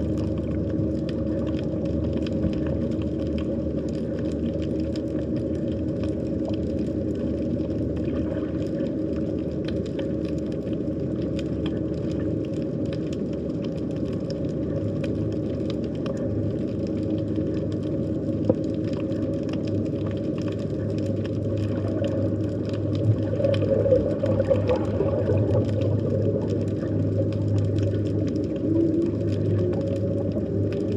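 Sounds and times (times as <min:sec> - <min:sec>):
constant hum: 0:00.0 - 0:30.9
faint clicks and crackles: 0:00.0 - 0:30.9
underwater low rumble: 0:00.0 - 0:30.9.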